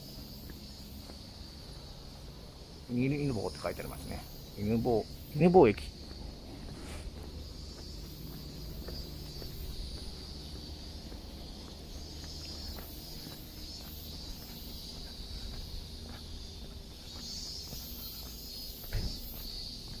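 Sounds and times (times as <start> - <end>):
faint footsteps: 0.0 - 20.0
insects chirring: 0.0 - 20.0.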